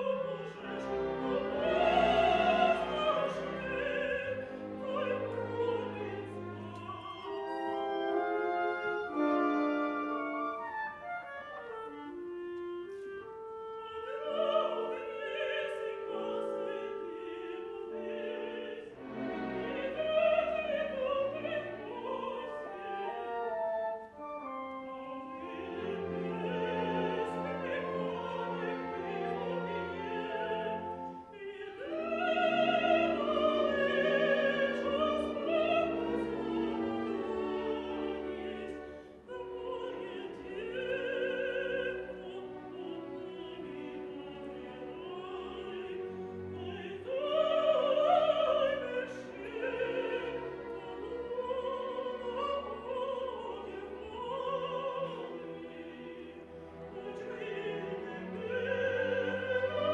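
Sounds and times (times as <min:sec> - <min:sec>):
classical orchestra: 0:00.0 - 0:59.9
woman singing opera: 0:00.0 - 0:59.9.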